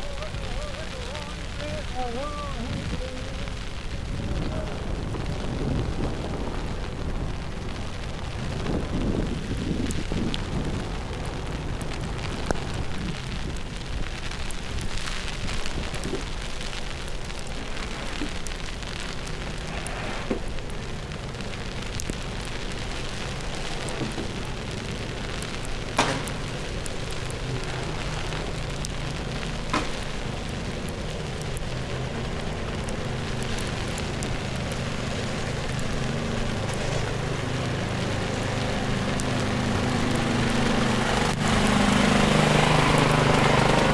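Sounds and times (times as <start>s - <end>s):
falling snow and wind hiss: 0.0s - 43.9s
vehicle engine running: 0.0s - 43.9s.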